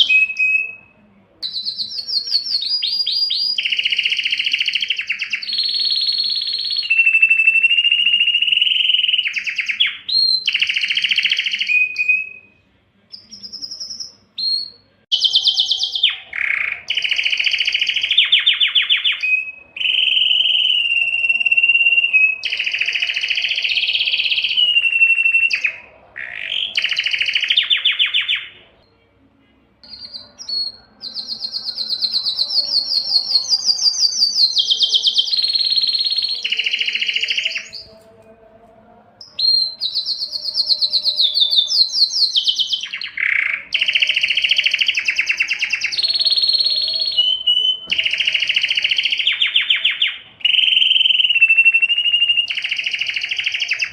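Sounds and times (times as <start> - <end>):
canary singing trills: 0.0 - 29.2, 29.8 - 38.4, 39.2 - 53.9.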